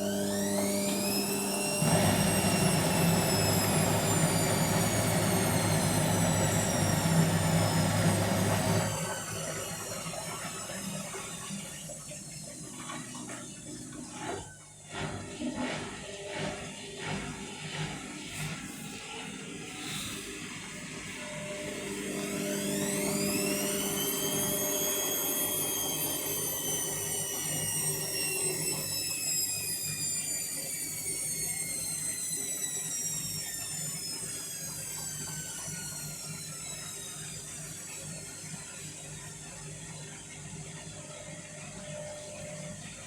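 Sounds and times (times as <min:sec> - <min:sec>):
washing machine spin whine: 0:00.0 - 0:43.0.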